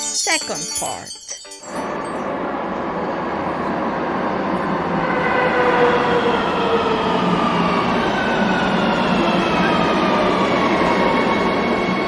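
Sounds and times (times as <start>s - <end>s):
subway train rumbling: 1.7s - 12.0s.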